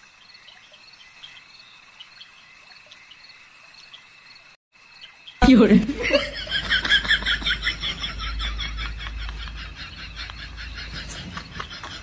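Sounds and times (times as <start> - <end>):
crickets trilling and chirping: 0.0 - 12.0.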